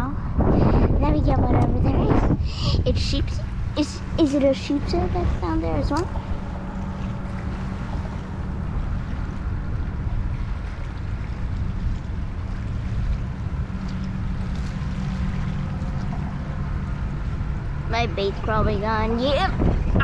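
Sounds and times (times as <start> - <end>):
constant low hum: 0.0 - 20.0
wind buffeting microphone: 0.0 - 20.0.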